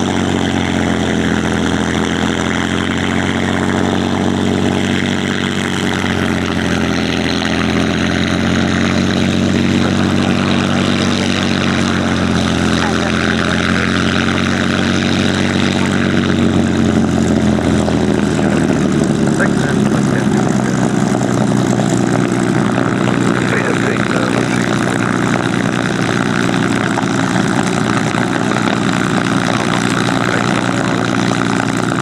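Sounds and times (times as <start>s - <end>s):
propeller plane engine idling: 0.0s - 32.0s.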